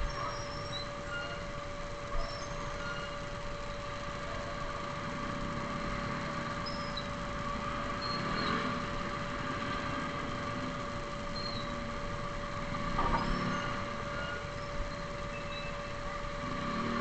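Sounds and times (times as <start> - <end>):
motorcycle engines idling in traffic: 0.0 - 17.0.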